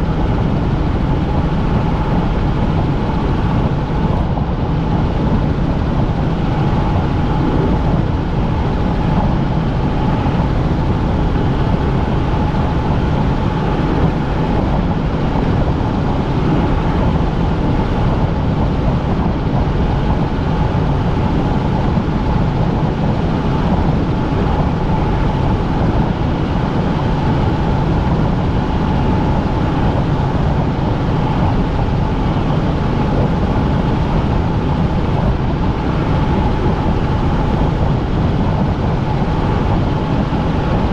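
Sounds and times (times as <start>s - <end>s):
helicopter engine and rotors: 0.0s - 40.9s
helicopter whine: 0.0s - 40.9s.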